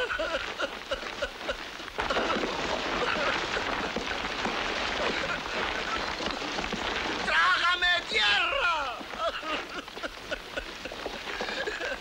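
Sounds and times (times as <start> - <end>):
earth and stones pouring: 0.0 - 12.0.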